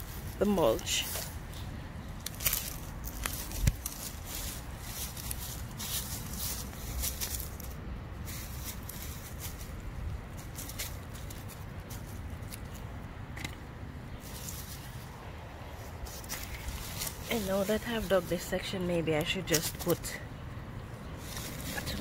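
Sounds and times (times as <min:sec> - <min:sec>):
scraping and crackling dry leaves: 0:00.0 - 0:13.0, 0:14.1 - 0:22.0.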